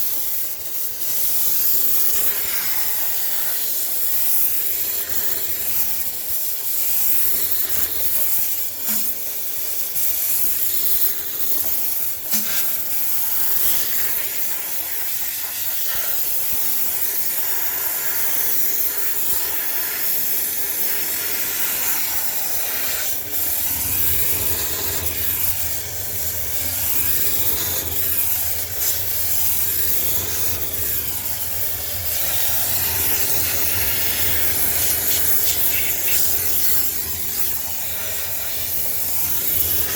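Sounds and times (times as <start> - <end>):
pressure washer jet hissing: 0.0 - 39.9.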